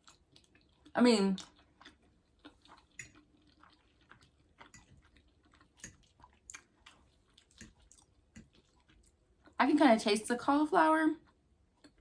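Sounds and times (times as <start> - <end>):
soft wet chewing: 0.0 - 9.8, 11.2 - 12.0.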